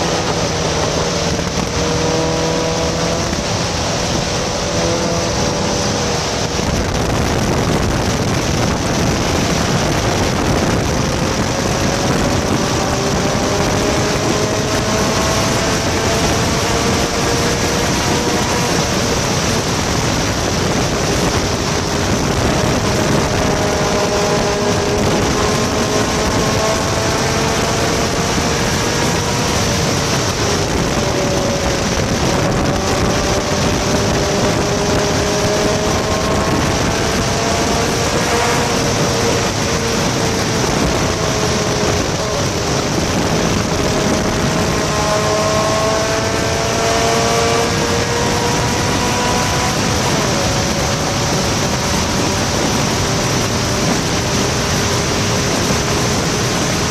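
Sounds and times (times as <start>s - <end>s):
sports car engine at speed: 0.0s - 56.9s
wind rushing: 0.0s - 56.9s.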